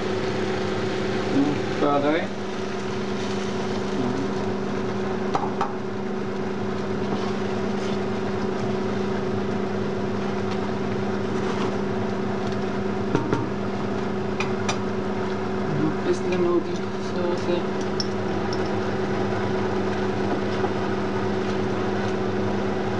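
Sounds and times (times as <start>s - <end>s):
kitchen appliance hum: 0.0s - 22.9s.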